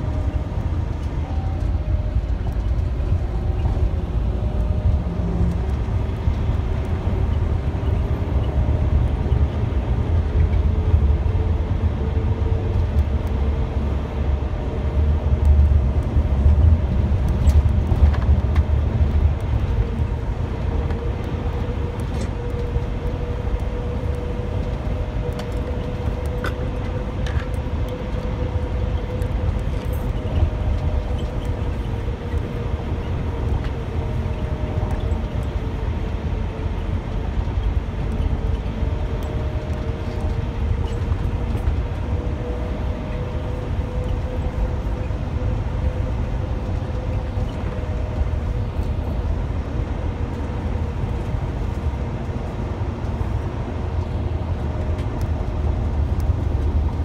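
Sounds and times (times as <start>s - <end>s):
coach engine and tyres rumbling: 0.0s - 57.0s.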